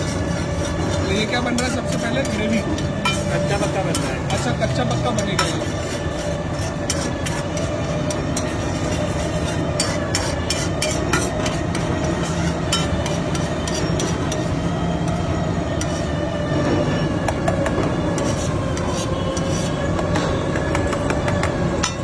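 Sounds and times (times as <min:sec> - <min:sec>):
metal spatula scraping griddle: 0:00.0 - 0:22.0.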